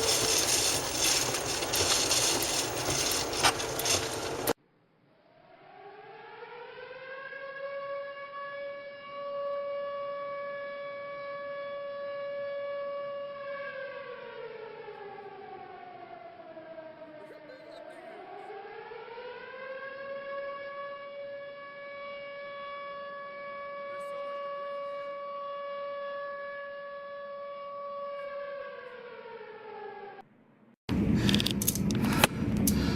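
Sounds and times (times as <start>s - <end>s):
tornado siren wailing: 0.0s - 4.6s, 5.3s - 30.2s.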